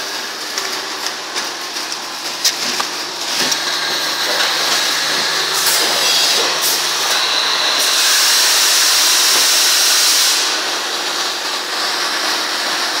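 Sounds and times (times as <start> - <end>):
thermoforming machine hissing: 0.0 - 13.0.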